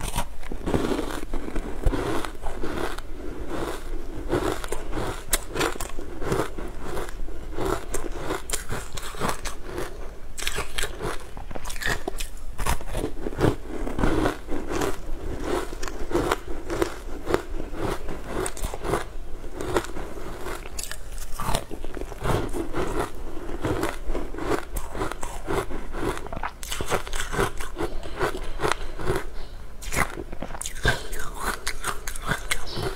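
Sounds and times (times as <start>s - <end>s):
crunchy frozen food being chewed: 0.0s - 32.9s.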